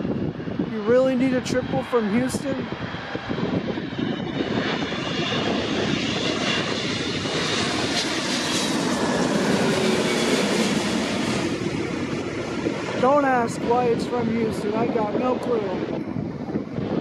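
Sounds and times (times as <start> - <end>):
faint high engine whine: 0.0 - 17.0
jet engines roaring overhead: 0.0 - 17.0.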